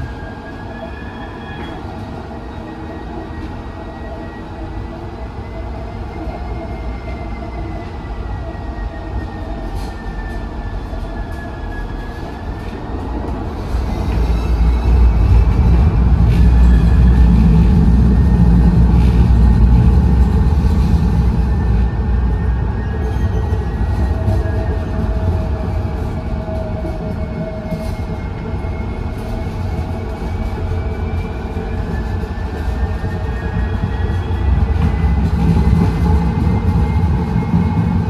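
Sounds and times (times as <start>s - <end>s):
rail car low rumble: 0.0s - 38.0s.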